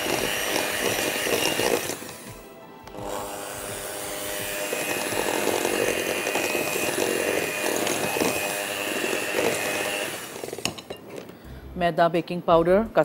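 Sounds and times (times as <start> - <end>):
electric hand mixer churning batter: 0.0 - 10.9.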